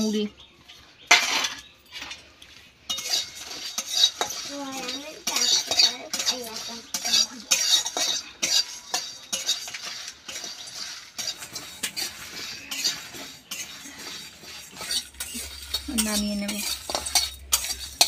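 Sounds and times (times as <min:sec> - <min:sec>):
metal spatula scraping a pan: 0:01.0 - 0:18.0
seeds rattling against metal: 0:01.0 - 0:18.0.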